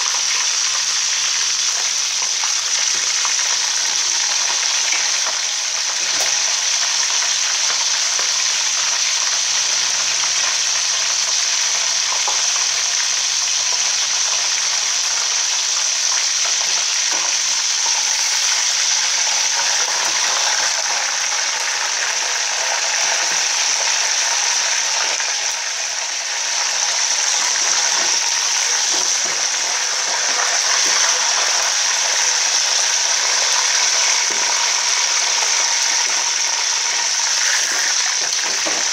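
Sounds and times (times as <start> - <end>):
chicken sizzling in hot oil: 0.0 - 38.9.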